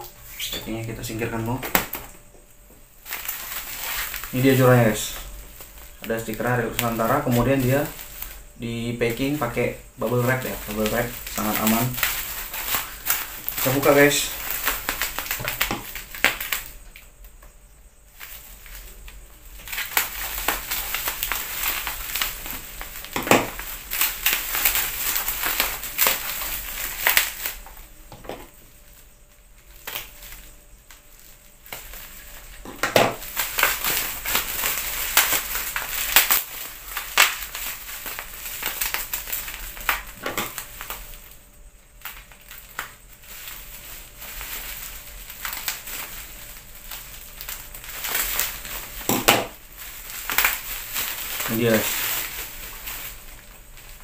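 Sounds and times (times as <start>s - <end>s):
bubble wrap crinkling and crackling: 0.0s - 54.0s.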